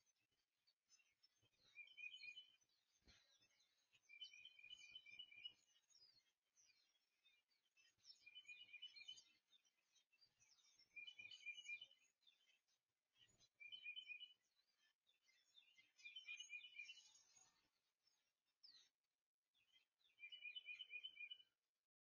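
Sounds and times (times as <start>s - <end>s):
songbird singing: 0.0s - 21.7s.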